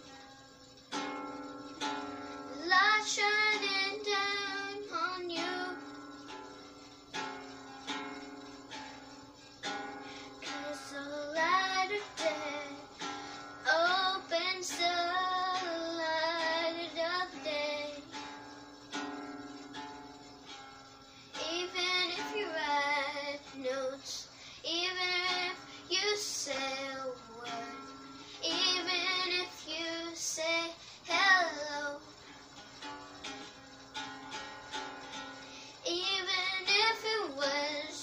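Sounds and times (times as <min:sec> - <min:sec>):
guitar strumming: 0:00.0 - 0:38.0
girl singing: 0:00.9 - 0:19.8, 0:21.2 - 0:38.0.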